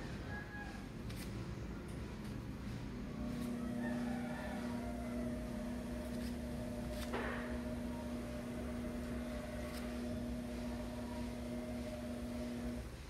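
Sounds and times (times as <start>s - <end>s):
appliance motor hum: 0.0s - 13.0s.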